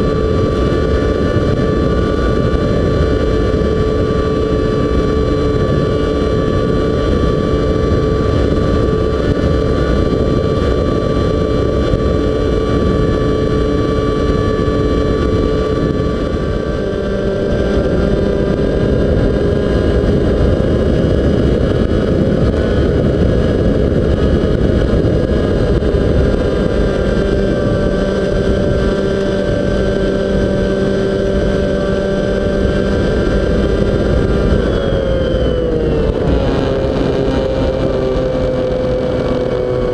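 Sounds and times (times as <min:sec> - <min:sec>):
model plane motor whining: 0:00.0 - 0:39.9
wind rush: 0:00.0 - 0:39.9.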